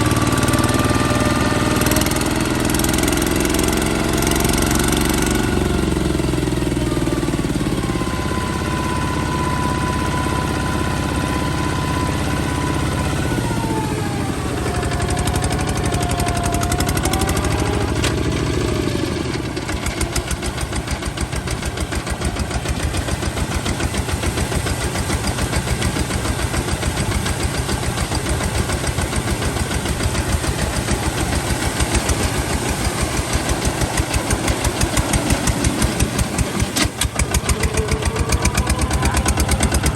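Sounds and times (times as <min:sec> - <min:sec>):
diesel engine chugging: 0:00.0 - 0:39.9
engine whine: 0:00.0 - 0:39.9.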